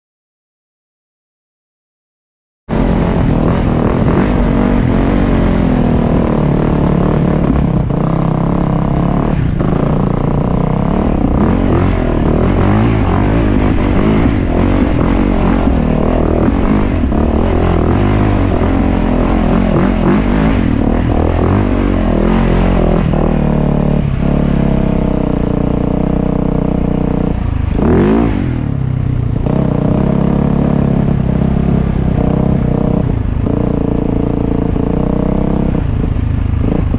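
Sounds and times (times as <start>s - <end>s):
dirt bike engine revving: 2.7s - 36.9s.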